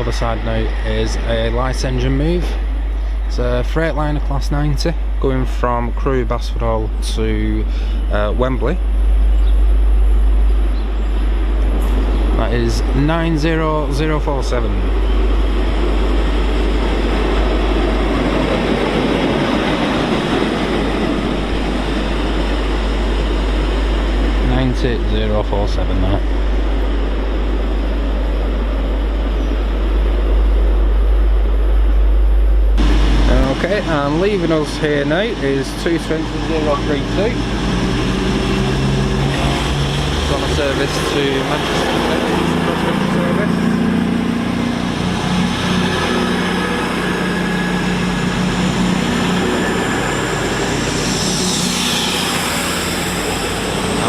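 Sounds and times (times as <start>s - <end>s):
diesel train rumble: 0.0s - 54.0s.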